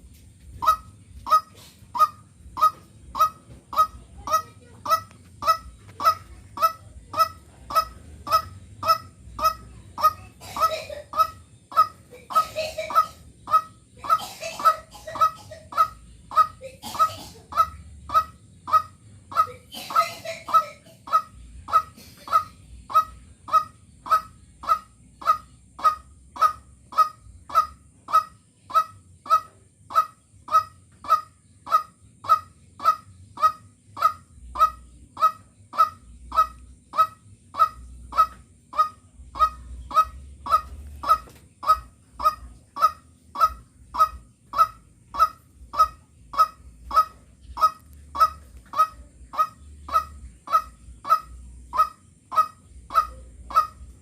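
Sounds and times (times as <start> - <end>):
bird honking calls: 0.0 - 54.0.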